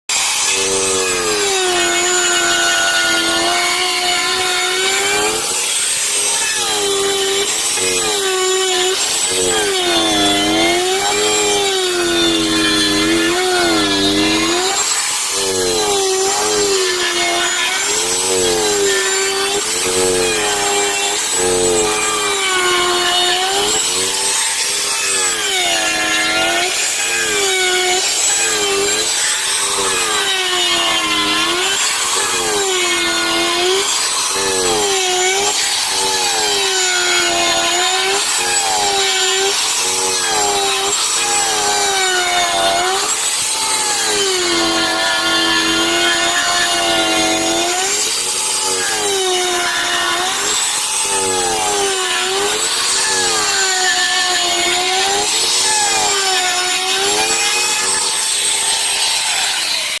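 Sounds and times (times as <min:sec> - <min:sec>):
wood router carving wood: 0:00.0 - 1:00.0.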